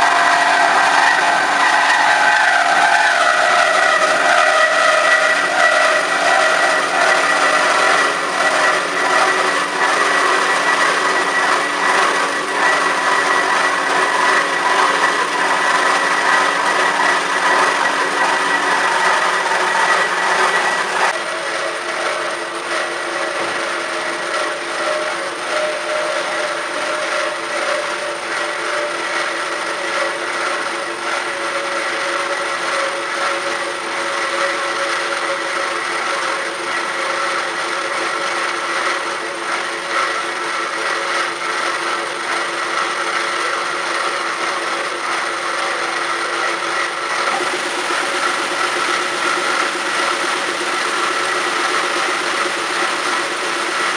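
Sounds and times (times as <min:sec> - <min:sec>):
band saw cutting metal: 0:00.0 - 0:53.9.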